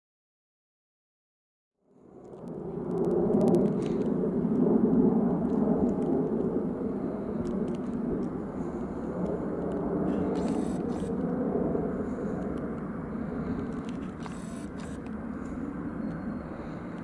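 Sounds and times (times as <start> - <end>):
jet engines rumbling: 1.9 - 17.0.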